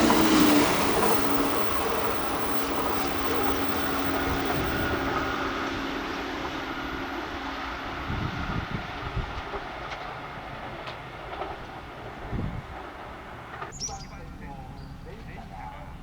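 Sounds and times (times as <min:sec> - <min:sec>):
steady tone: 0:00.0 - 0:13.6
electric train passing: 0:00.0 - 0:16.0.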